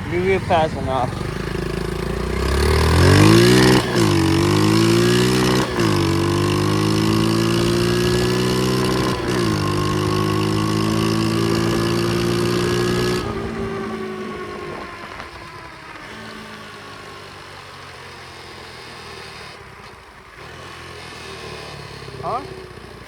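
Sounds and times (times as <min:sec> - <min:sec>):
small motorbike engine accelerating: 0:00.0 - 0:23.0.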